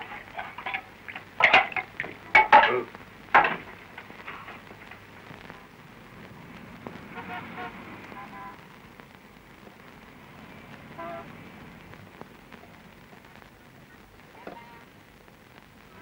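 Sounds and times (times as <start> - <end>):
old film hiss and crackle: 0.0 - 16.0.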